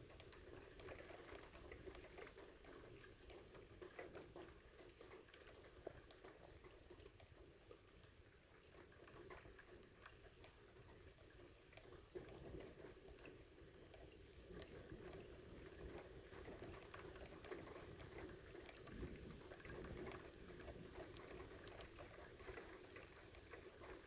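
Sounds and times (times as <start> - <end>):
faint rain falling: 0.0 - 24.0.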